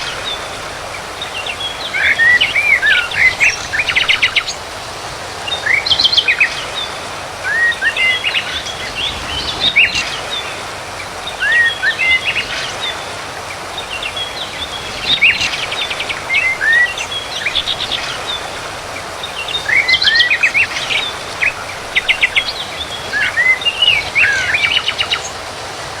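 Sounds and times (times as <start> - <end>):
songbirds chirping and trilling: 0.0 - 26.0
steady background hiss: 0.0 - 26.0.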